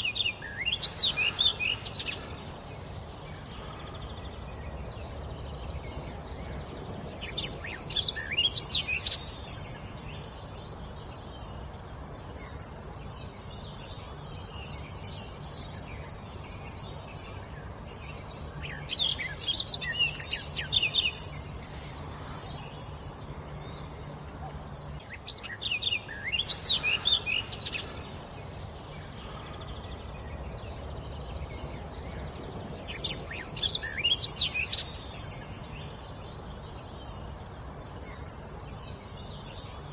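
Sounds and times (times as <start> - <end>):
low background hum: 0.0 - 39.9
songbird singing: 0.0 - 39.9.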